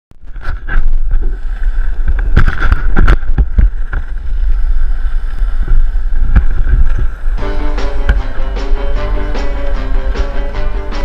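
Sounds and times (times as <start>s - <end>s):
wind on microphone: 0.1s - 11.0s
skateboard wheels rumbling on asphalt: 0.2s - 11.0s.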